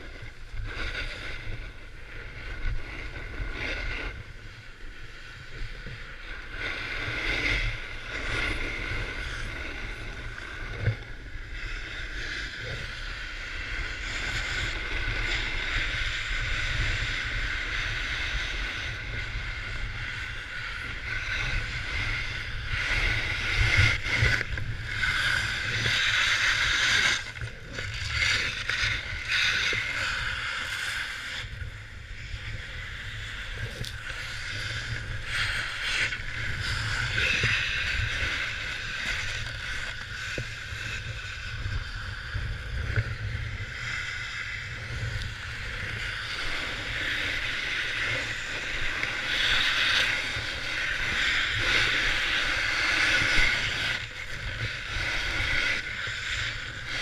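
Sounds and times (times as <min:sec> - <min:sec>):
snowboard scraping over snow: 0:00.0 - 0:57.0.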